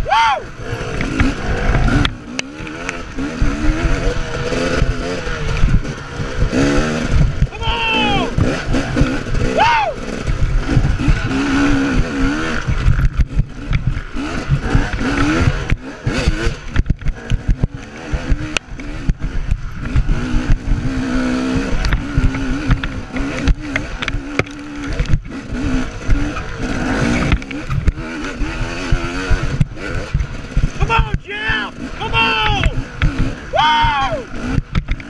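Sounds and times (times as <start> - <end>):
dirt bike engine revving: 0.0 - 35.0
wind rumble on microphone: 0.0 - 35.0.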